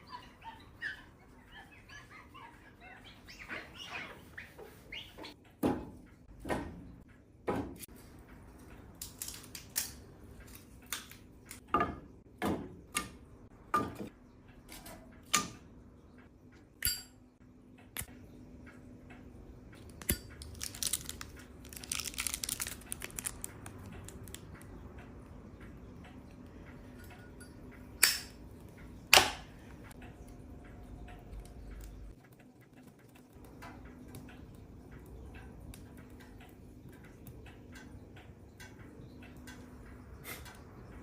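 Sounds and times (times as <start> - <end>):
wood fire crackling in stove: 4.7 - 41.0.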